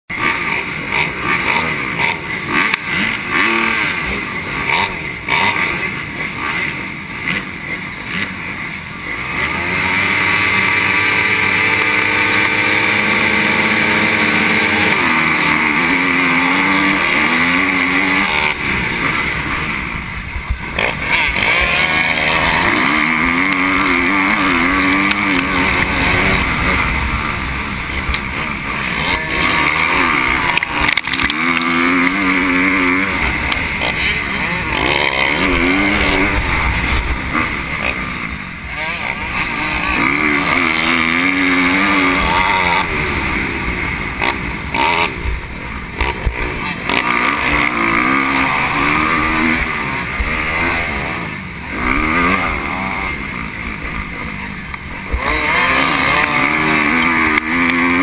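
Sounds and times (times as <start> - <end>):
dirt bike engine revving: 0.1 - 58.0.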